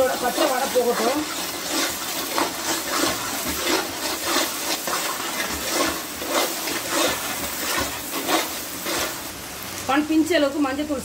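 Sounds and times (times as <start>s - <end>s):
ladle stirring in a pot: 0.0s - 9.3s
food sizzling in oil: 0.0s - 11.0s.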